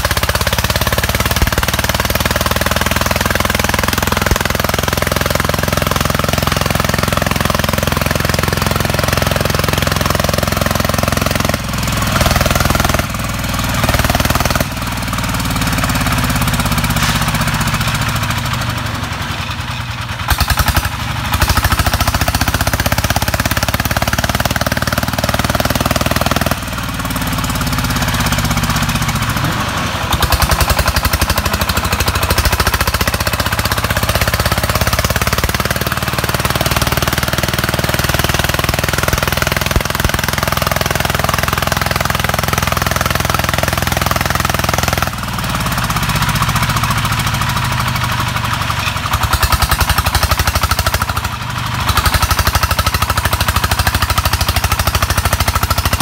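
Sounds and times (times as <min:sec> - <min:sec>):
tractor diesel engine chugging: 0:00.0 - 0:56.0.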